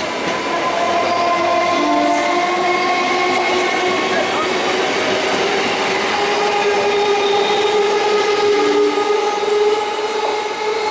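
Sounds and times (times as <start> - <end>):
train wheels rushing on rails: 0.0 - 10.9.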